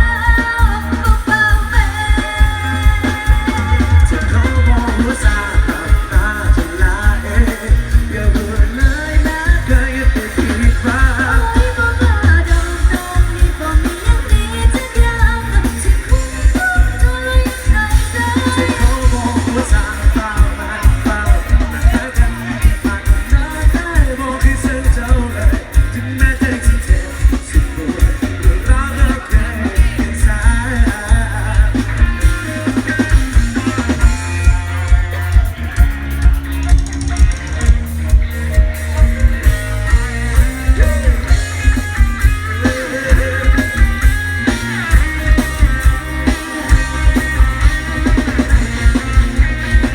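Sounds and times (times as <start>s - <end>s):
heavy bass beat: 0.0s - 49.9s
song through sound system: 0.0s - 49.9s.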